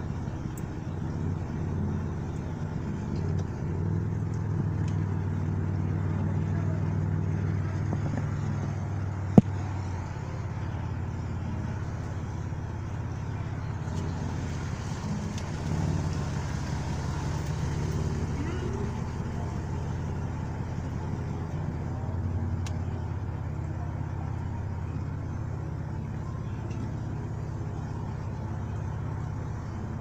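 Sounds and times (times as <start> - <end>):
car engine humming: 0.0 - 30.0.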